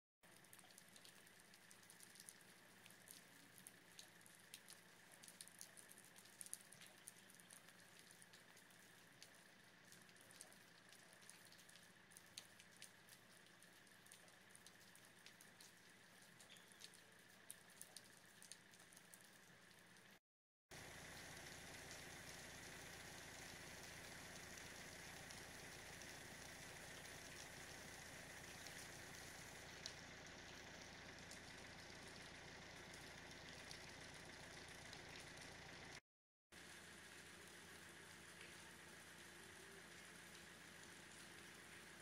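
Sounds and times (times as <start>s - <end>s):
water drips ticking: 0.2s - 36.0s, 36.6s - 42.0s.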